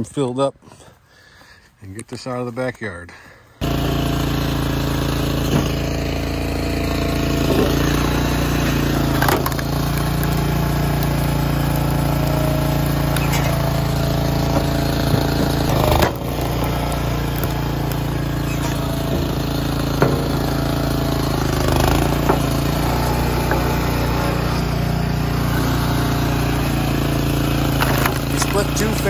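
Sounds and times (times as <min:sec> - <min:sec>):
log splitter engine running: 0:03.6 - 0:29.0
wood cracking as split: 0:05.4 - 0:29.0.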